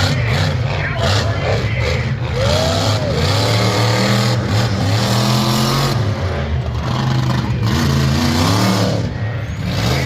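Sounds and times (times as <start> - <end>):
vehicle engine revving: 0.0 - 10.0.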